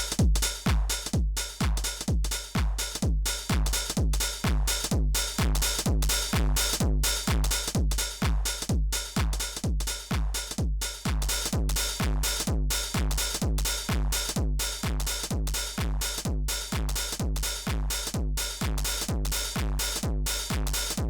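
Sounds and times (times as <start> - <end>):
drum machine kick drum: 0.0 - 21.0
off-beat hi-hats: 0.0 - 21.0.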